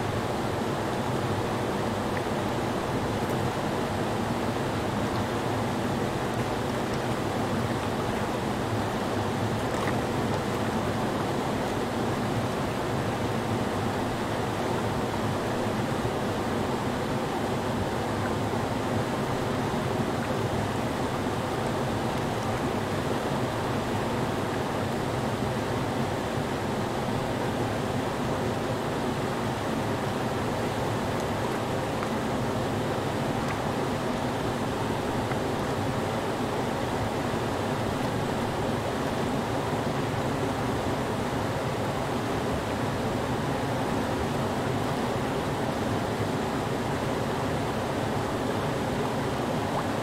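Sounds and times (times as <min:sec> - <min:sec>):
whitewater rushing over rocks: 0:00.0 - 0:50.0.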